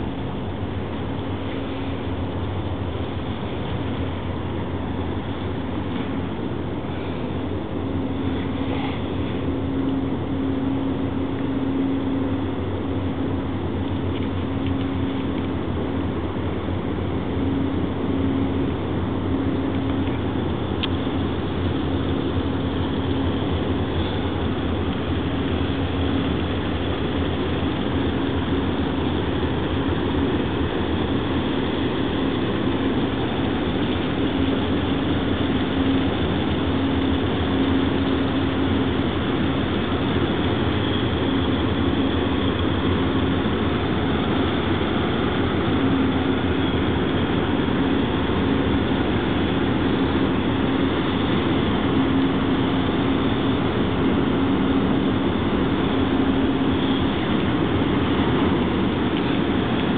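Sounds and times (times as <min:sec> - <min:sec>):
ship engines droning: 0:00.0 - 0:59.9.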